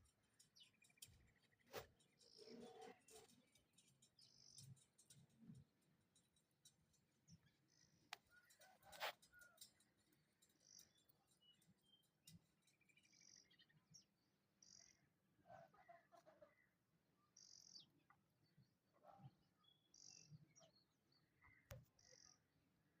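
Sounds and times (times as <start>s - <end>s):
faint bird chirps: 0.0s - 5.6s, 7.3s - 23.0s.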